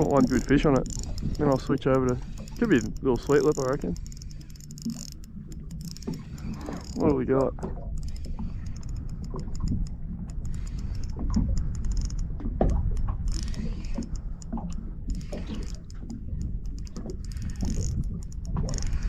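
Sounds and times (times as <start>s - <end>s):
fishing reel clicking: 0.0s - 19.0s
low steady rumble: 0.0s - 19.0s.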